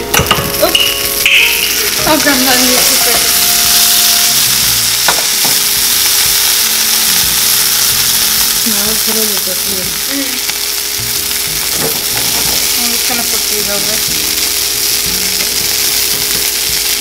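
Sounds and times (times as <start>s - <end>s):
patties sizzling in a skillet: 0.0s - 17.0s.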